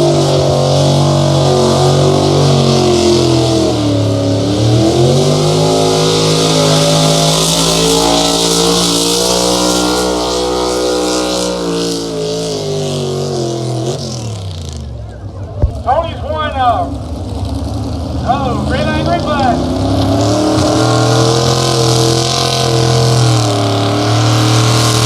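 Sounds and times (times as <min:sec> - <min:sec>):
engine at full throttle: 0:00.0 - 0:25.0.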